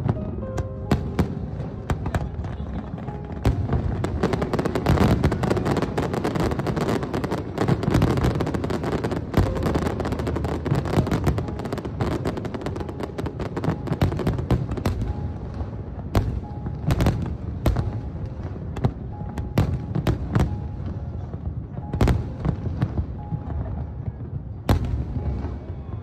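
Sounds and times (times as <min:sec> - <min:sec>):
fireworks bursting: 0:00.0 - 0:23.8.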